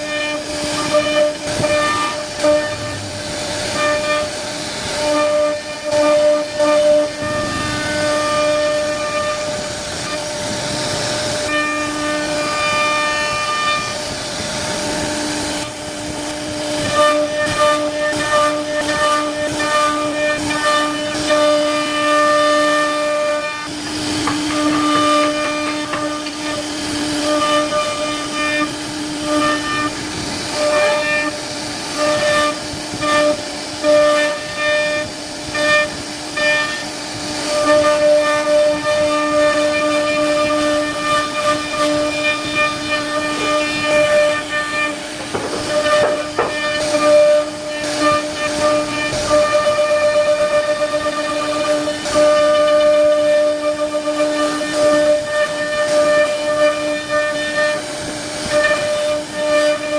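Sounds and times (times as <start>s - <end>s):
bit cutting wood: 0.0s - 59.9s
cnc router spindle whine: 0.0s - 59.9s.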